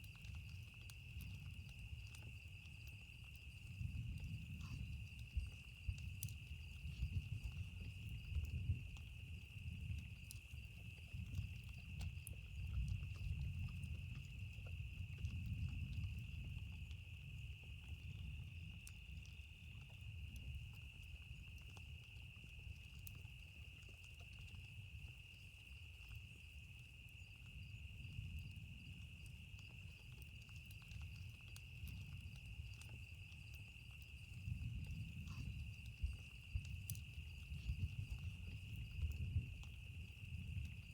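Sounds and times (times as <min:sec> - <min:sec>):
campfire crackling and popping: 0:00.0 - 0:40.9
insects trilling: 0:00.0 - 0:40.9.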